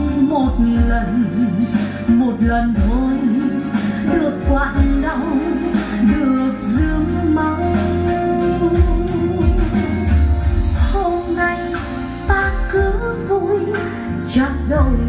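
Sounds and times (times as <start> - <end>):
song with vocal and deep bass: 0.0 - 15.0.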